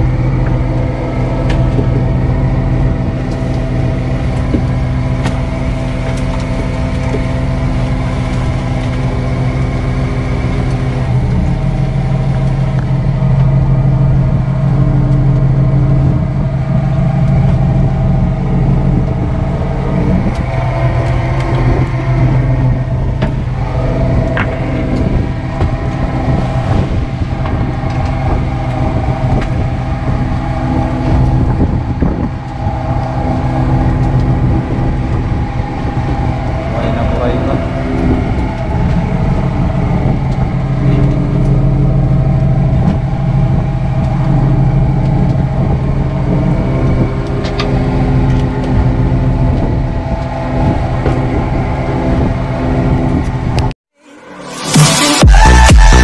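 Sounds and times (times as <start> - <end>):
boat engine running: 0.0 - 53.8, 54.5 - 56.0.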